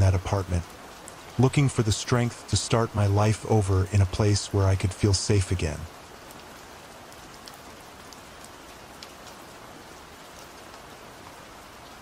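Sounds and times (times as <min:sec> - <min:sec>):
raindrop ticks: 0:00.0 - 0:09.5, 0:10.2 - 0:11.0
steady rain: 0:00.0 - 0:12.0.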